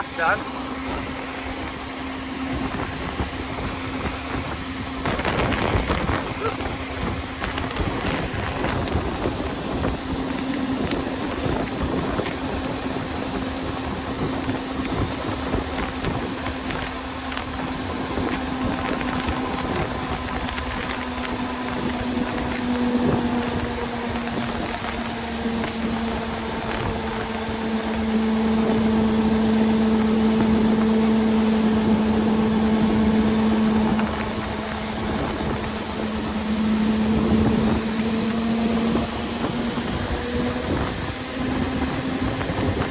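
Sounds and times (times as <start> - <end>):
combine harvester humming: 0.0 - 42.9.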